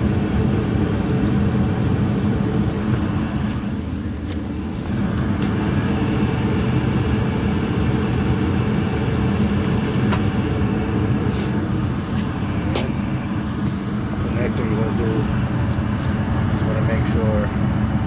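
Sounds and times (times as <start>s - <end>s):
gas furnace rumble: 0.0s - 18.0s.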